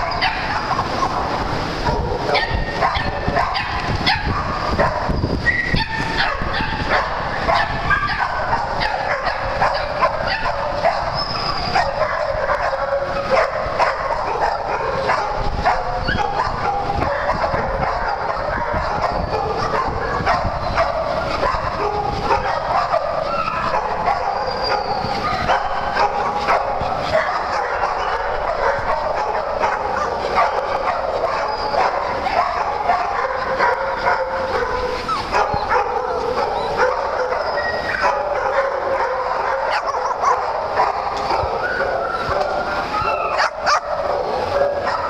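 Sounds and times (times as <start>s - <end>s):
small dogs barking and yipping: 0.0s - 45.0s.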